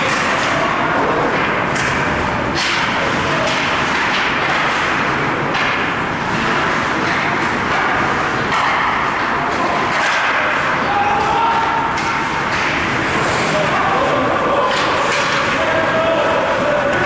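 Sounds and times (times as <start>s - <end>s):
skating and arena noise: 0.0s - 17.0s.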